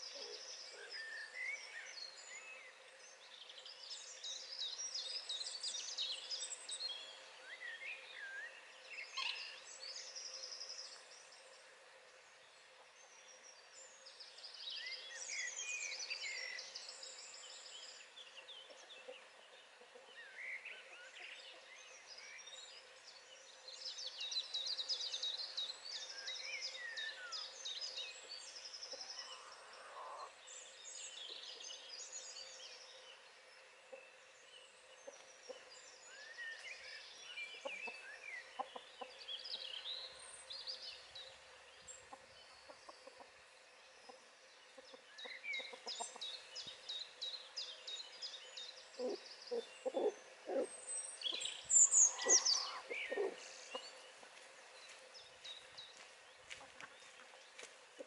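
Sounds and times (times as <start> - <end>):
birds singing and calling: 0.0 - 11.7, 12.6 - 58.0.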